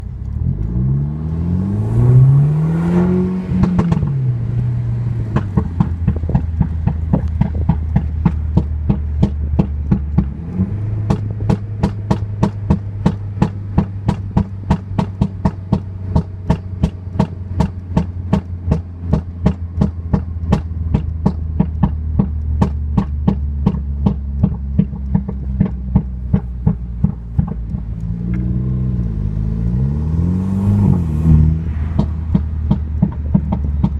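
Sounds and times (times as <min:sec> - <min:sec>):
car engine revving: 0:00.0 - 0:33.9
exhaust crackling pops: 0:03.2 - 0:29.2, 0:30.7 - 0:33.9.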